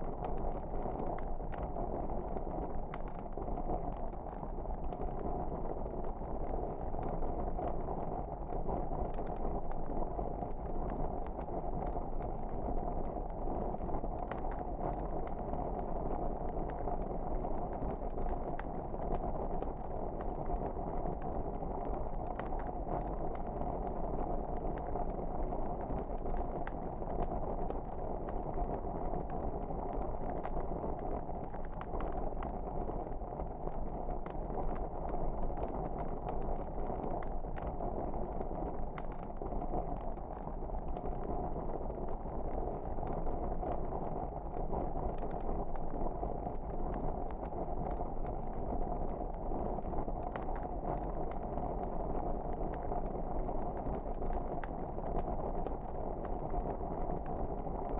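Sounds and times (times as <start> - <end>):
fire crackling and popping: 0.0 - 57.9
low rush of flame: 0.1 - 57.3.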